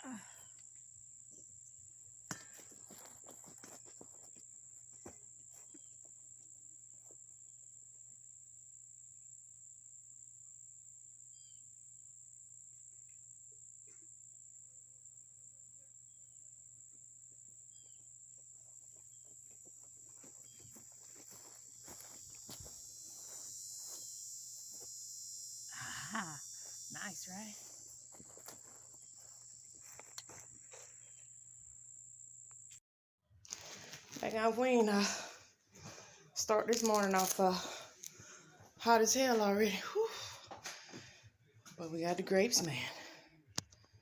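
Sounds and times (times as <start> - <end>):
insect trill: 0.0 - 32.8, 33.5 - 41.2, 41.9 - 43.9.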